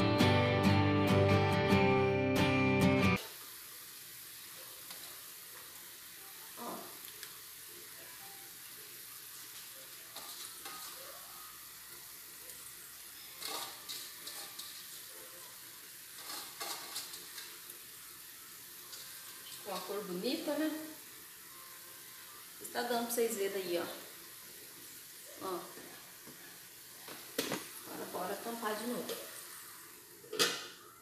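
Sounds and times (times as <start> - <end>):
chicken sizzling in a pot: 3.1 - 31.0.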